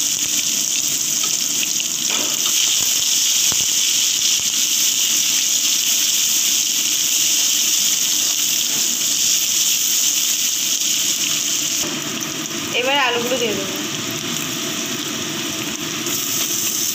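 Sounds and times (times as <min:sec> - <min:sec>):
onion sizzling in oil: 0:00.0 - 0:16.9.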